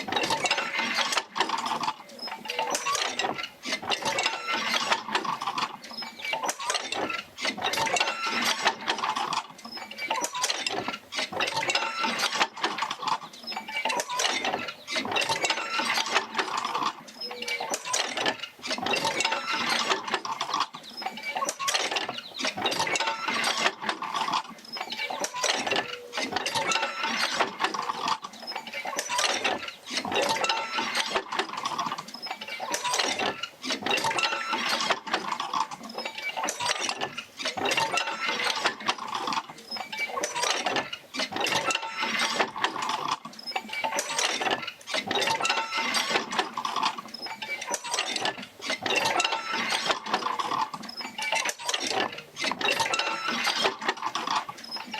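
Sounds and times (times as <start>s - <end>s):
machine knocks creaks and clinks: 0.0s - 54.9s.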